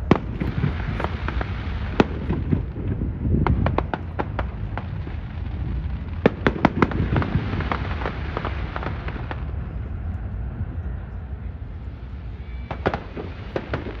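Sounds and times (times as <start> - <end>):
fireworks cracking: 0.0 - 10.6, 11.2 - 14.0
low rumble of fireworks: 0.0 - 14.0.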